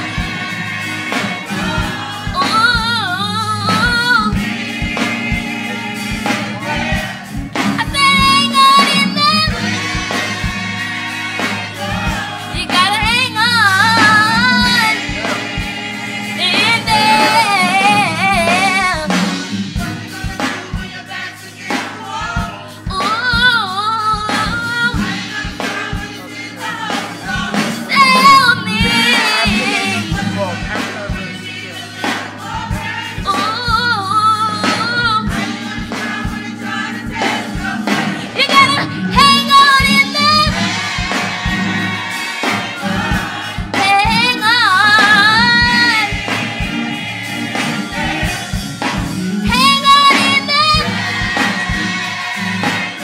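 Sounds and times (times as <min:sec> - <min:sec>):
gospel choir singing: 0:00.0 - 0:53.0
steady beat: 0:00.0 - 0:53.0.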